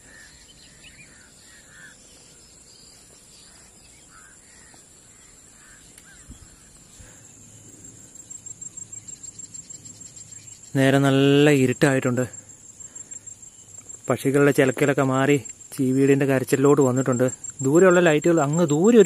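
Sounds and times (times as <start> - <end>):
birds calling: 0.0 - 19.0
cricket chirping: 0.0 - 19.0
high insect drone: 0.0 - 19.0.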